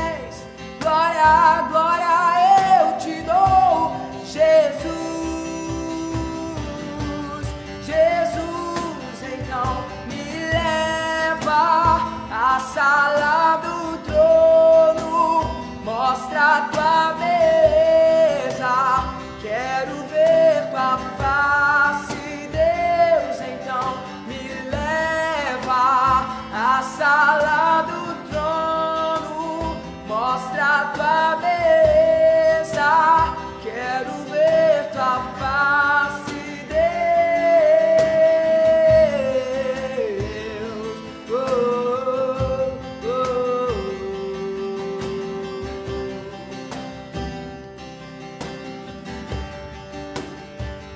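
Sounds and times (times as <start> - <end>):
man singing slow melody: 0.0 - 47.0
cajon beat: 0.0 - 50.9
strummed acoustic guitar: 0.0 - 50.9.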